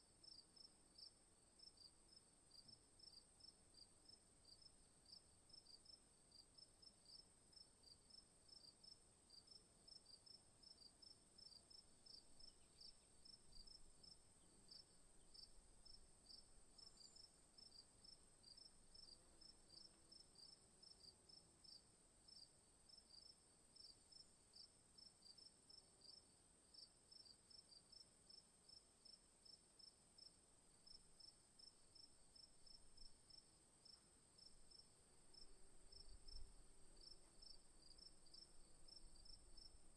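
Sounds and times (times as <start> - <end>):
crickets chirping: 0.2 - 39.9.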